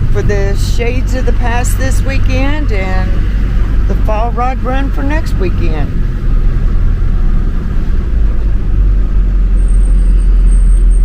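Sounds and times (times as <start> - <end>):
vehicle driving on road: 0.0 - 11.0.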